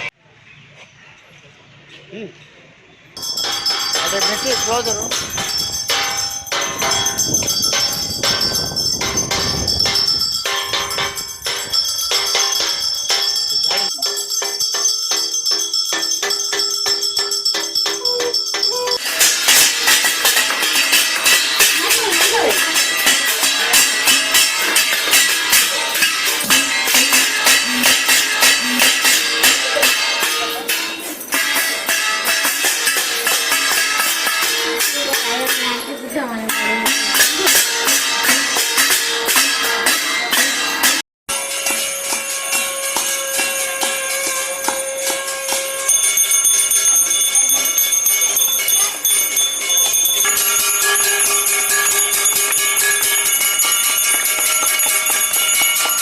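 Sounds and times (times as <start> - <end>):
bells and metal plates clanging: 3.2 - 56.0
ringing bell tones: 3.2 - 56.0.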